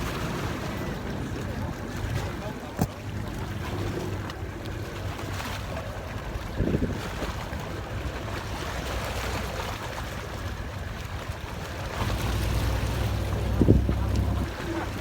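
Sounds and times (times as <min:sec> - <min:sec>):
wind buffeting microphone: 0:00.0 - 0:09.6, 0:10.3 - 0:15.0
waves breaking against rocks: 0:00.0 - 0:15.0.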